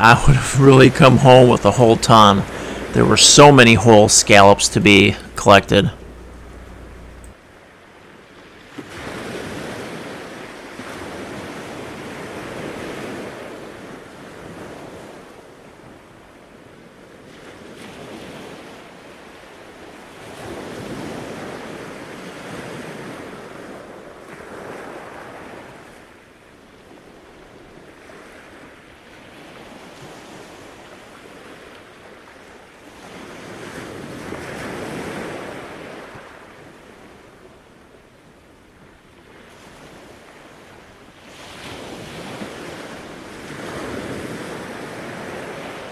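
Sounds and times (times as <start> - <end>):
surf breaking on a beach: 0.0 - 45.9.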